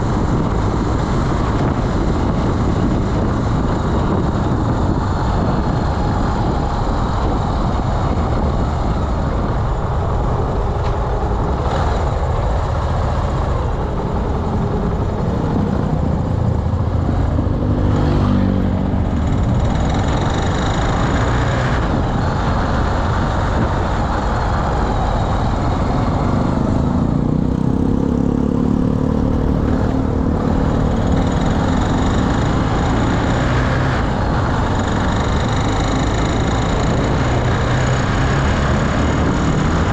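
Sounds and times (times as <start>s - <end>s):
scooter engine running: 0.0s - 39.9s
wind and road noise: 0.0s - 39.9s.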